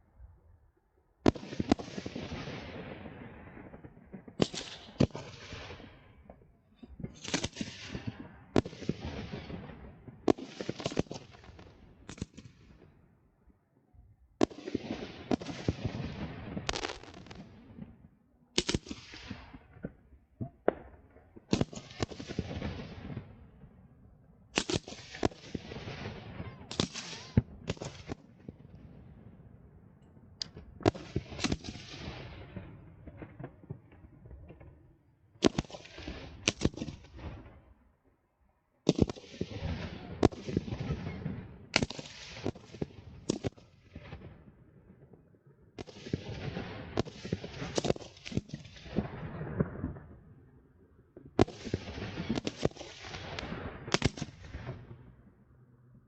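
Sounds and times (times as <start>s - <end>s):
fireworks bangs: 1.2s - 12.9s, 14.4s - 23.8s, 24.5s - 29.5s, 30.4s - 34.8s, 35.4s - 37.6s, 38.9s - 44.4s, 45.8s - 50.3s, 51.2s - 55.1s.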